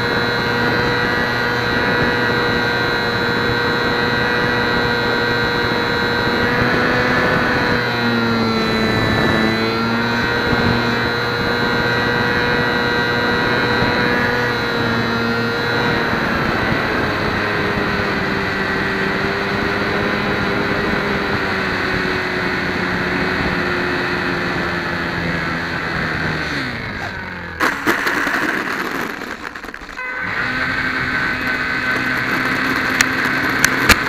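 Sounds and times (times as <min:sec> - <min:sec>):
model plane motor whining: 0:00.0 - 0:34.0.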